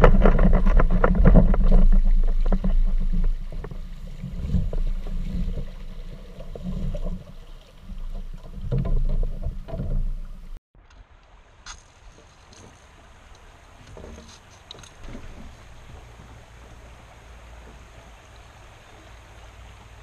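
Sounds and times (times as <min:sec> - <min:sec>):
paddle strokes knocking and splashing: 0:00.0 - 0:10.6, 0:11.7 - 0:20.0
water splashing against kayak hull: 0:00.0 - 0:20.0.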